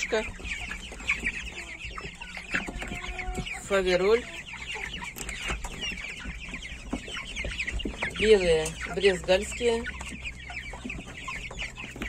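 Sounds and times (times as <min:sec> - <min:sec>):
chicks peeping and clucking: 0:00.0 - 0:12.0.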